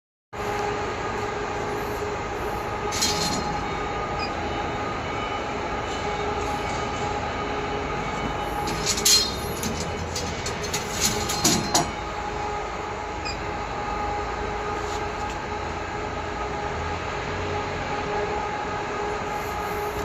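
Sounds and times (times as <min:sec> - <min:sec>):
laser cutter mechanical hum: 0:00.4 - 0:20.0.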